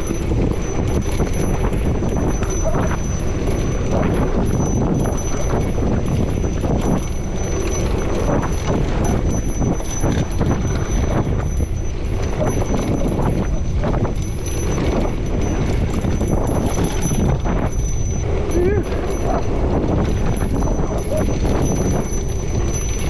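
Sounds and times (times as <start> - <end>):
bike frame and chain rattling: 0.0 - 23.0.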